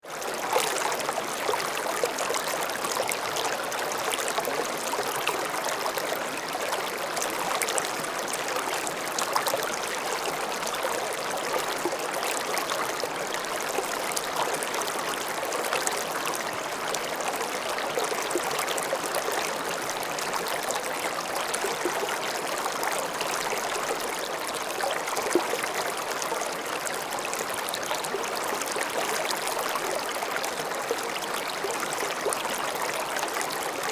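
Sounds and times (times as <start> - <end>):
stream flowing over stones: 0.0 - 33.9.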